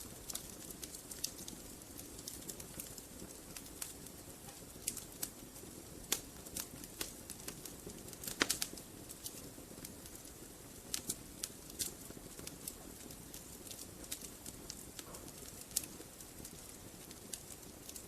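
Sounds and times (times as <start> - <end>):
logs crackling and popping: 0.0 - 18.0
wood fire hissing: 0.0 - 18.0.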